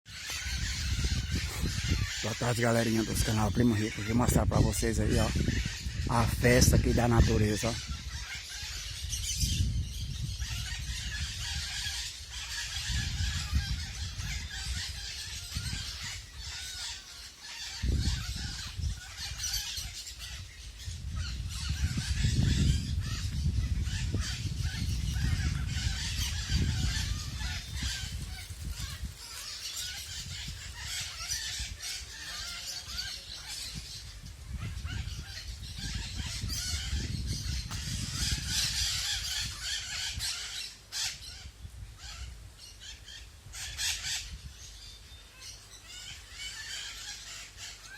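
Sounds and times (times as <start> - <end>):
wind rumbling on microphone: 0.1 - 47.0
parrots squawking and screeching: 0.1 - 47.9.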